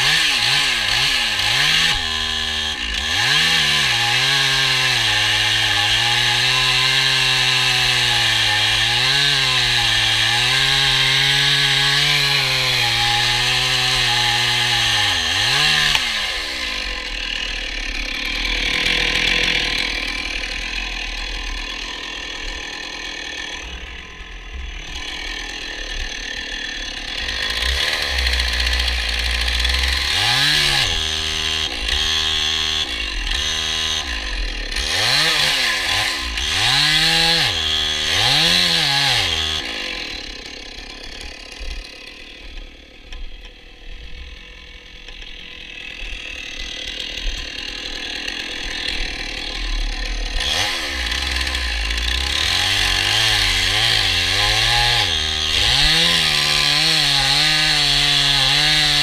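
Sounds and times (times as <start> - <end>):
chainsaw cutting tree trunk: 0.0 - 59.0
chainsaw revving and idling: 0.0 - 59.0.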